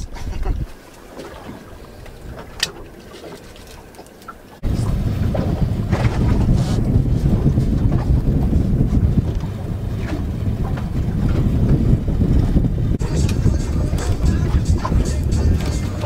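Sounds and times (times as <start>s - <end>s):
wind buffeting microphone: 0.0s - 3.1s, 3.7s - 16.0s.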